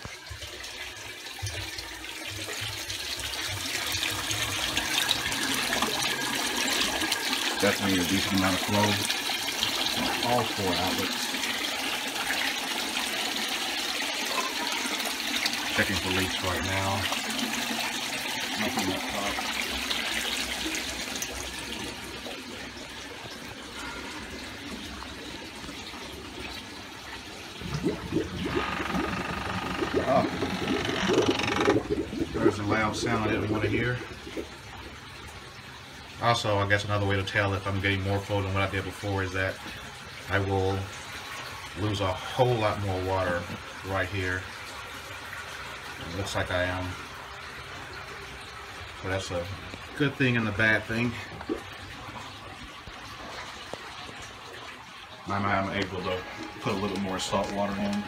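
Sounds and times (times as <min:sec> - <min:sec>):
pump running: 0:00.0 - 0:58.0
water rushing and splashing into aquarium: 0:00.0 - 0:58.0.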